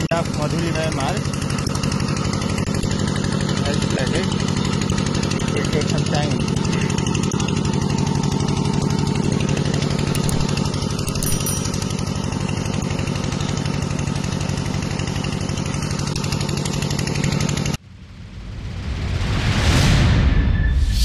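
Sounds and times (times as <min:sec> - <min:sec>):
water pump engine running: 0:00.0 - 0:18.5.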